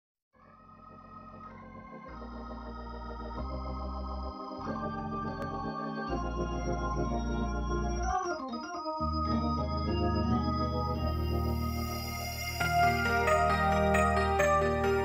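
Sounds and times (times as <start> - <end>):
organ chords: 0.8 - 15.0.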